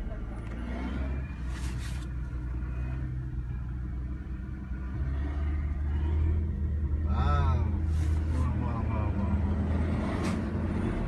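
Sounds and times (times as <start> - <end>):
car engine rumble inside cabin: 0.0 - 11.0.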